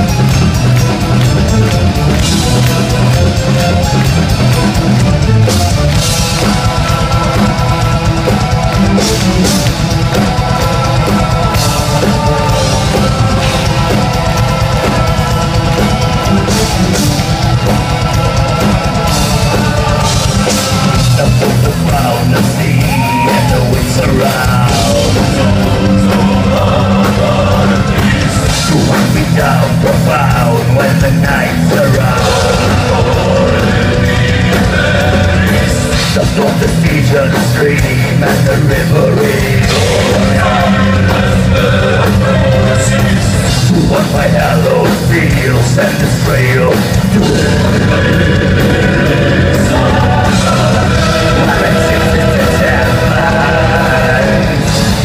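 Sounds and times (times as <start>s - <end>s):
metal band playing live: 0.0s - 55.0s
person singing: 5.5s - 55.0s.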